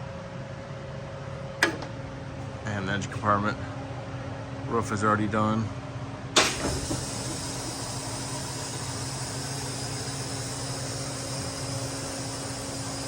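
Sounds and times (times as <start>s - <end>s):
steady mechanical hum with hiss: 0.0s - 13.0s.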